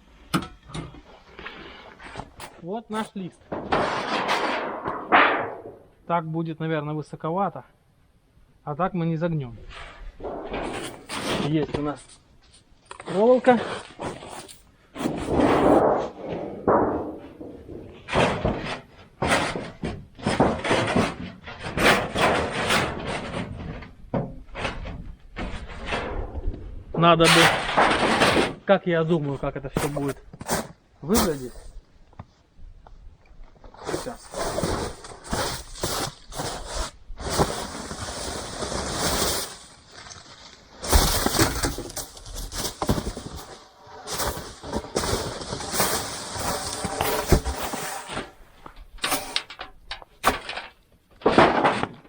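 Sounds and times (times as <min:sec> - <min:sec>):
sheet metal rattling and crinkling: 0:00.4 - 0:06.1, 0:09.4 - 0:52.0.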